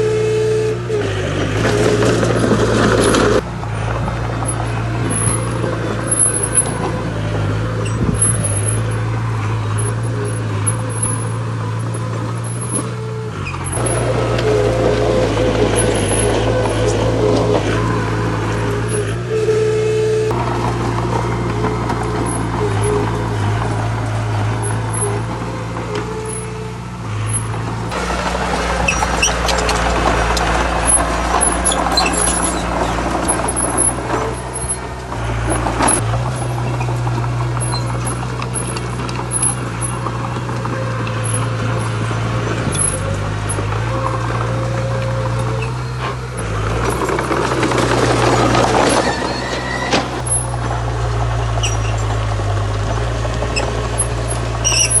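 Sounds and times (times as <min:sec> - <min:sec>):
engine clattering: 0:00.0 - 0:55.0
heavy diesel engine under load: 0:00.0 - 0:55.0.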